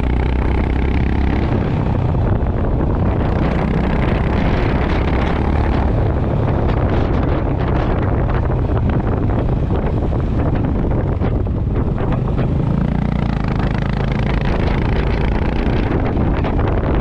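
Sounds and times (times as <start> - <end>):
motorcycle engine thumping: 0.0 - 17.0
wind buffeting microphone: 0.0 - 17.0.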